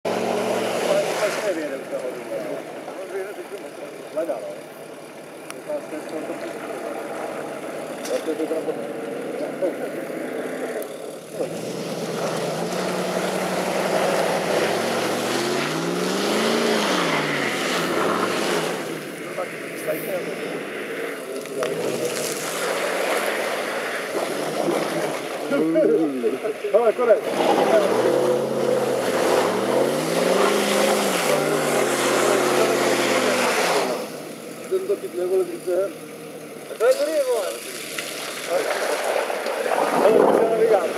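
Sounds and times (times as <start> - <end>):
off-road vehicle engine under load: 0.0 - 40.9.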